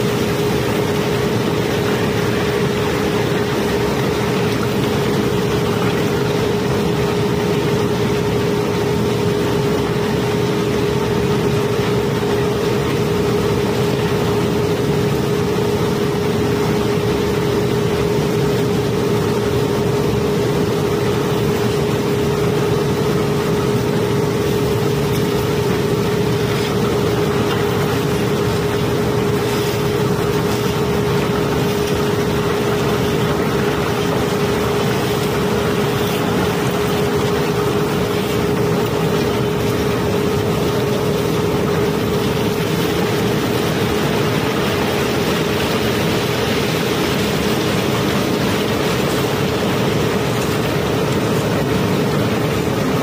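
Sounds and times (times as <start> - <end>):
machinery droning: 0.0 - 53.0.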